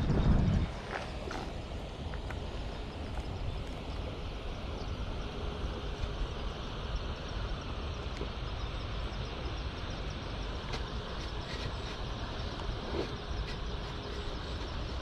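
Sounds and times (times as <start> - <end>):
wind rumbling on microphone: 0.0 - 15.0
outdoor hiss: 0.8 - 15.0.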